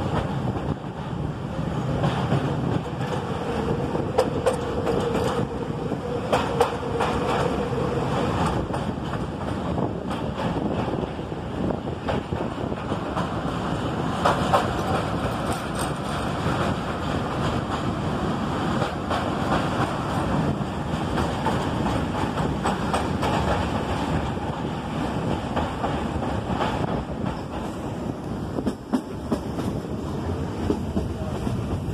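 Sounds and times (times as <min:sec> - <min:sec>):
train wheels rumbling on rails: 0:00.0 - 0:31.9
wind buffeting microphone: 0:00.0 - 0:31.9.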